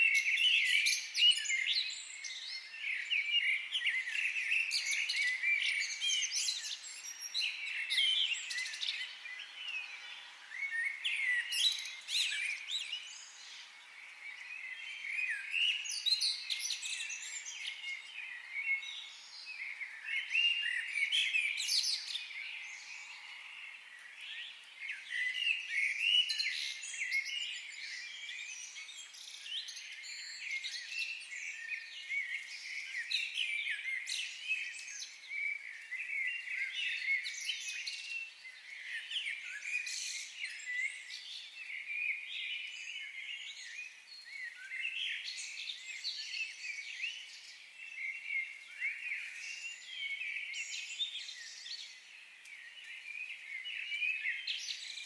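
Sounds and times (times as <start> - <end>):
songbirds chorus chirping: 0.0 - 55.0.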